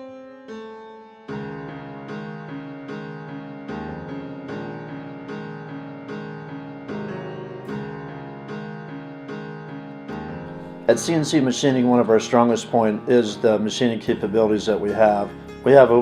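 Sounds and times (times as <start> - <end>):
keyboard chords: 0.0 - 16.0.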